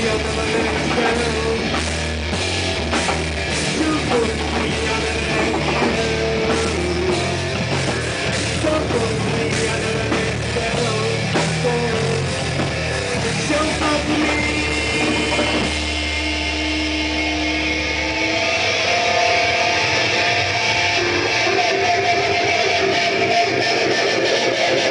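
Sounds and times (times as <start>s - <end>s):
bass guitar: 0.0s - 24.9s
drum kit: 0.0s - 24.9s
electric guitar: 0.0s - 24.9s.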